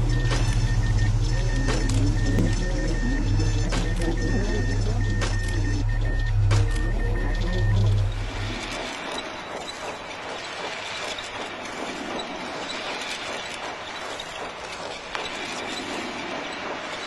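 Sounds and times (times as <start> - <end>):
machinery clatter and hiss: 0.0 - 17.0.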